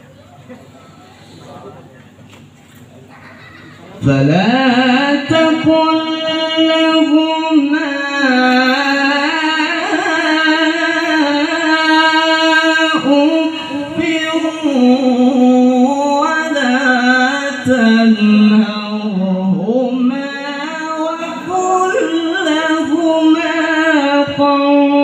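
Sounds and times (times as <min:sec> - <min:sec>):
man chanting recitation: 0:03.9 - 0:25.0.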